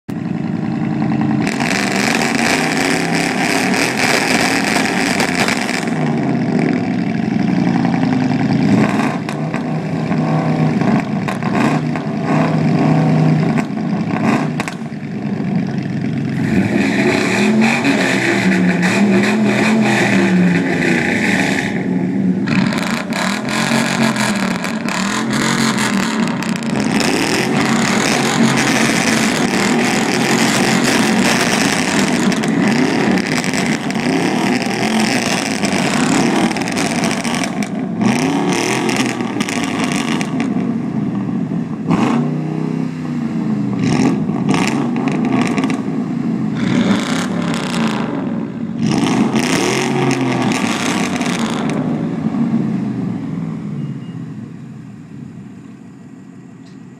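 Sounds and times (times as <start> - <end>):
pickup trucks revving loud exhausts: 0.6 - 53.7.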